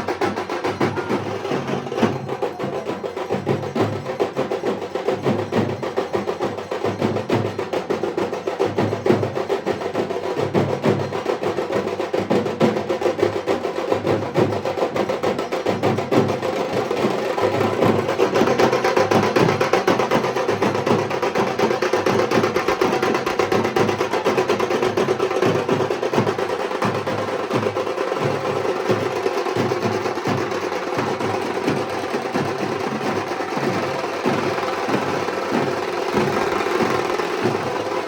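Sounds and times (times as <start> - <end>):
drum roll with sticks: 0.0 - 38.0.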